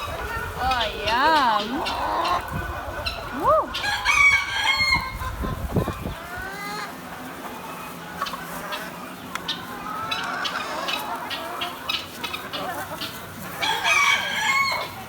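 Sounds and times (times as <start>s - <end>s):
hens clucking and calling: 0.0s - 15.0s.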